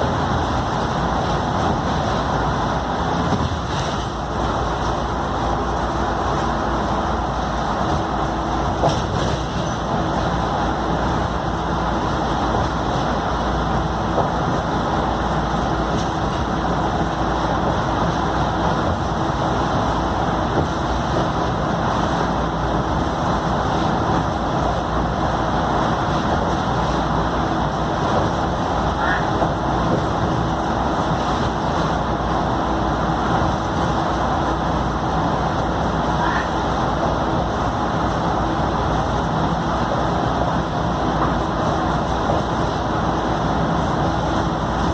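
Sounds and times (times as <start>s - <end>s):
bus diesel engine droning: 0.0s - 44.9s
road noise: 0.0s - 44.9s.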